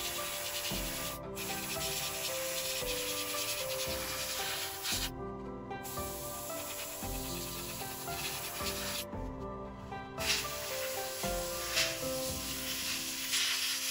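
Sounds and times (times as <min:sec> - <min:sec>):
airbrush spraying hiss: 0:00.0 - 0:05.1, 0:05.8 - 0:09.1, 0:10.2 - 0:13.9
background music: 0:00.0 - 0:13.9.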